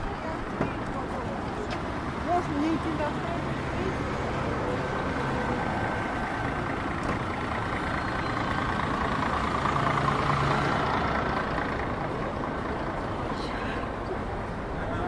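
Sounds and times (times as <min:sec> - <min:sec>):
bus engine running: 0:00.0 - 0:15.0
street traffic noise: 0:00.0 - 0:15.0.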